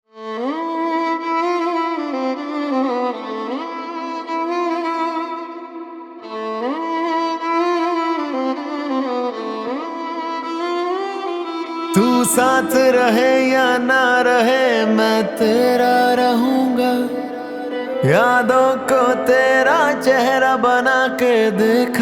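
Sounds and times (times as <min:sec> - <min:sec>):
solo violin melody: 0:00.1 - 0:22.0.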